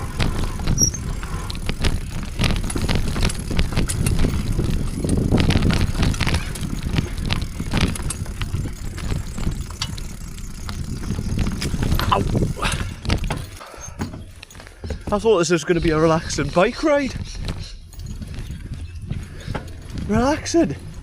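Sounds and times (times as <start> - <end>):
bicycle rattling and knocking: 0.0 - 21.0.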